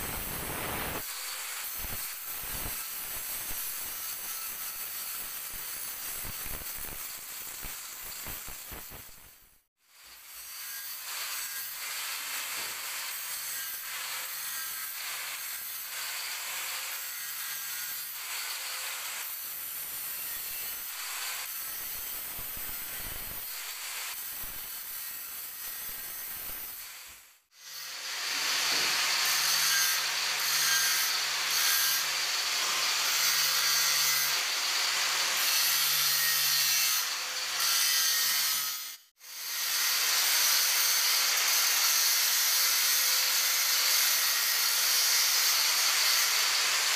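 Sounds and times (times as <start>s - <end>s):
angle grinder grinding stone: 0.0s - 9.4s, 10.1s - 38.8s.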